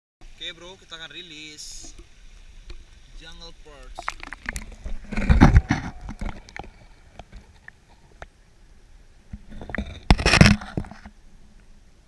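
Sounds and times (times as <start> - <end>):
rush of water: 0.2 - 12.0.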